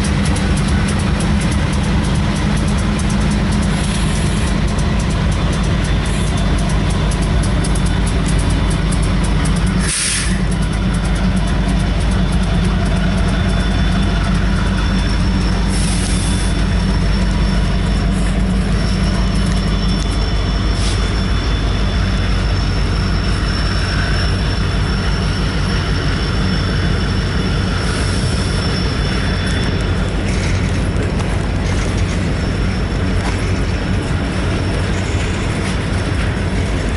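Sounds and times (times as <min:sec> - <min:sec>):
freight train wheels rumbling: 0:00.0 - 0:36.9
high-pitched wheel squeal: 0:00.0 - 0:36.9.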